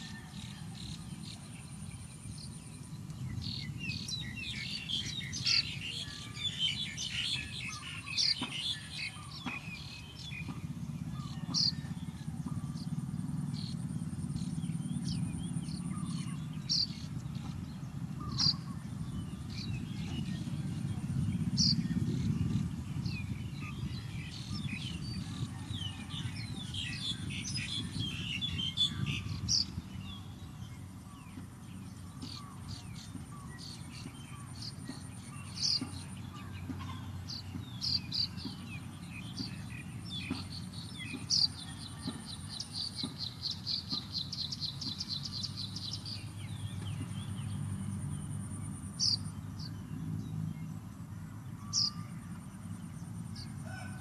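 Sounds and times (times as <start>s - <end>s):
small birds chirping: 0.0s - 54.0s
steady low rumble: 0.8s - 51.6s.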